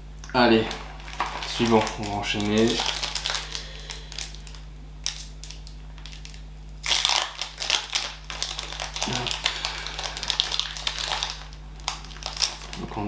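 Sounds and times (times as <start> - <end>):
foil pack crinkling and tearing: 0.6 - 13.0.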